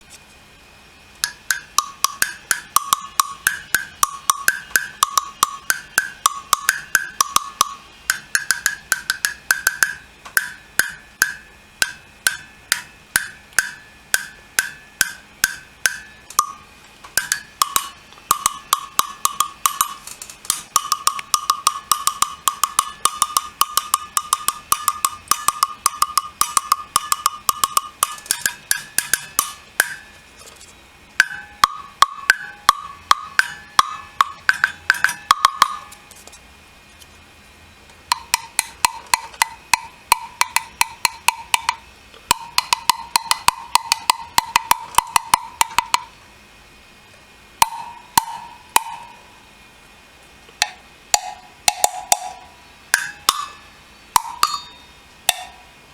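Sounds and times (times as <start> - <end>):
wood blocks struck with stick: 1.2 - 30.2, 31.2 - 36.0, 38.1 - 46.2, 47.6 - 49.3, 50.6 - 55.7.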